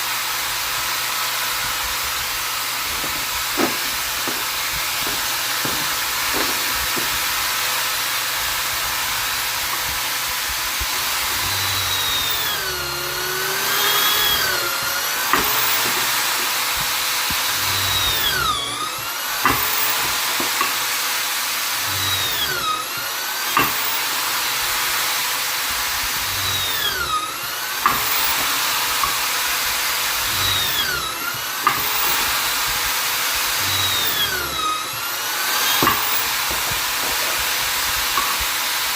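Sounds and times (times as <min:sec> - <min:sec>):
electric drill whining on wood: 0:00.0 - 0:38.9.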